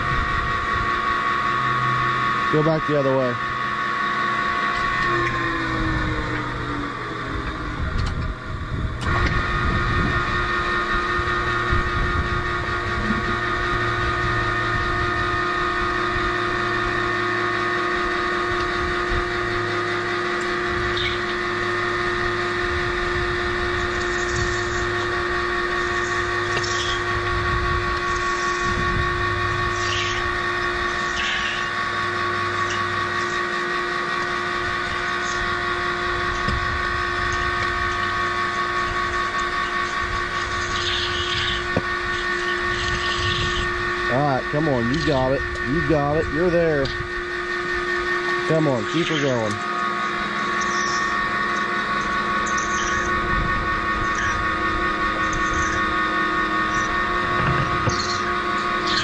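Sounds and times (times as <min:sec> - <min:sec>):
motor whining and gearbox grinding: 0:00.0 - 0:59.0.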